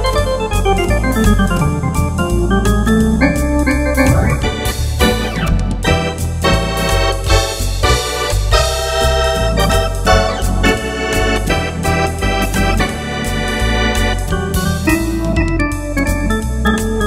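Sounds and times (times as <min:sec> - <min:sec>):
electronic organ playing swing: 0:00.0 - 0:07.7, 0:08.3 - 0:17.0.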